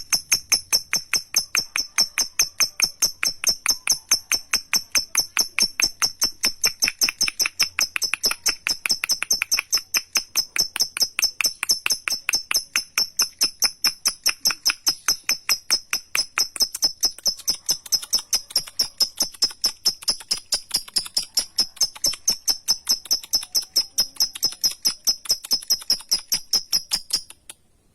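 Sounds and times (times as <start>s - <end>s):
bird shrill rapid chattering: 0.0s - 27.5s.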